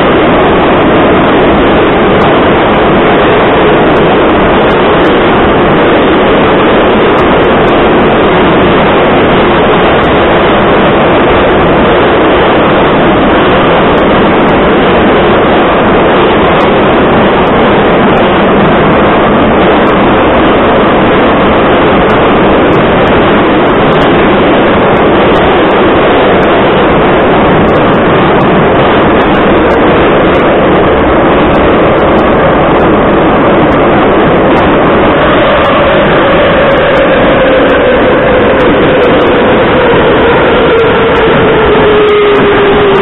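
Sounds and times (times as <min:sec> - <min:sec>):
wheels roaring on rails: 0:00.0 - 0:43.0.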